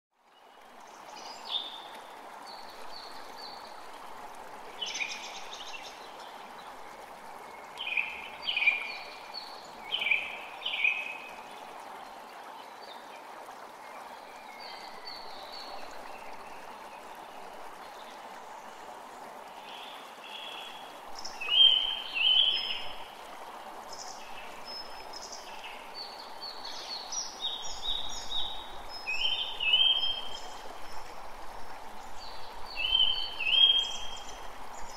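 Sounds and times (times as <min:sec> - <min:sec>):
creek running: 0:00.1 - 0:34.9.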